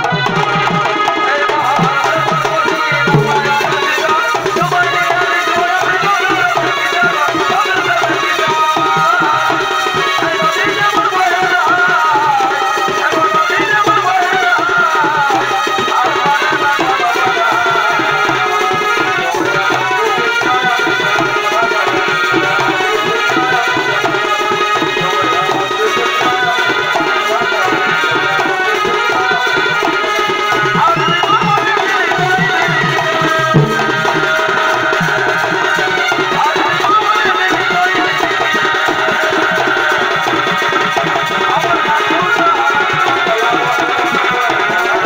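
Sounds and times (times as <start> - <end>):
fast drum beating: 0.0 - 45.0.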